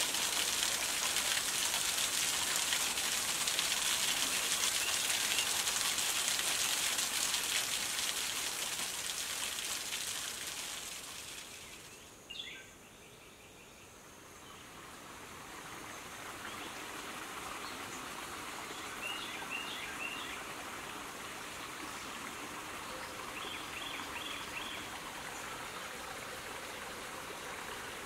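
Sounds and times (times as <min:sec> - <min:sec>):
falling water hiss and patter: 0:00.0 - 0:12.5, 0:14.5 - 0:28.0.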